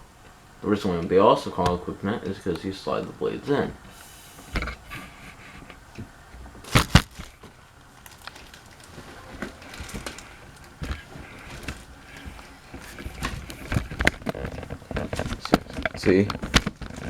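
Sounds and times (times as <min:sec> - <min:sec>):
handling clicks and knocks: 0:00.2 - 0:03.2, 0:05.6 - 0:17.0.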